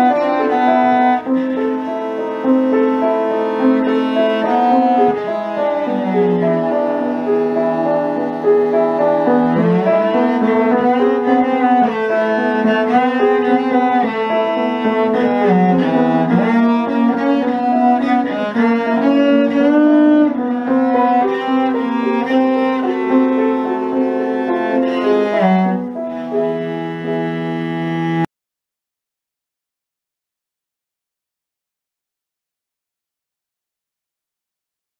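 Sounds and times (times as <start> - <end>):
cello bowing melody: 0.0 - 28.3
piano accompaniment: 0.0 - 28.3.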